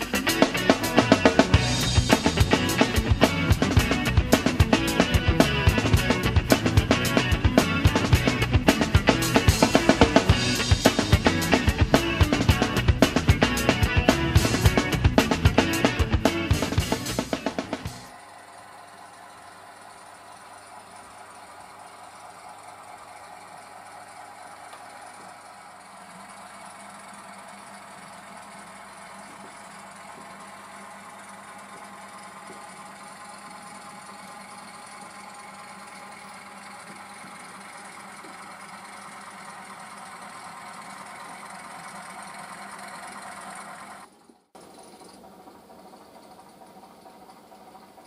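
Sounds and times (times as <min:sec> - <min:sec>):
model locomotive engine sound: 0:00.0 - 0:48.0.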